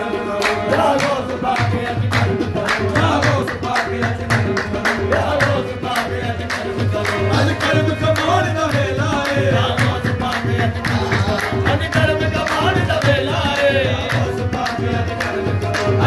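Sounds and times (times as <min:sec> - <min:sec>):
harmoniums: 0:00.0 - 0:16.0
man singing: 0:00.0 - 0:16.0
group clapping: 0:00.3 - 0:16.0.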